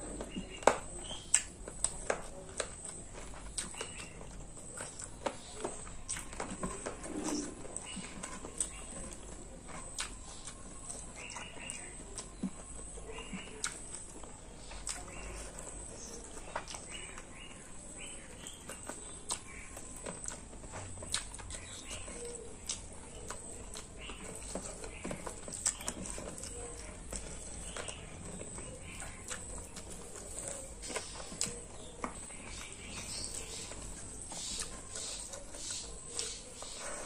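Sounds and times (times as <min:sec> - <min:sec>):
chewing and lip smacking: 0:00.0 - 0:37.0.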